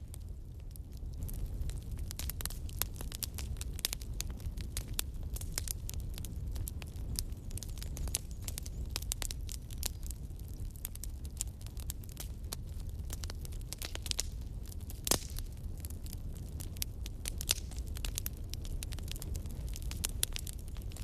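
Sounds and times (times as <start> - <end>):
low rumble of burning fire: 0.0 - 21.0
wood fire crackling: 0.0 - 21.0.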